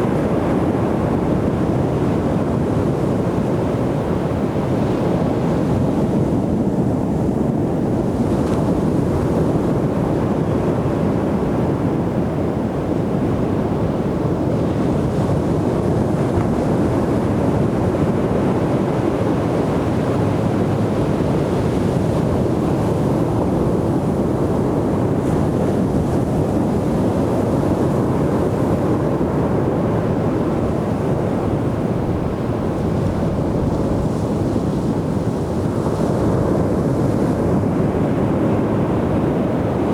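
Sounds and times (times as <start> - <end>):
ocean surf roaring: 0.0 - 39.9
wind rumbling on microphone: 0.0 - 39.9.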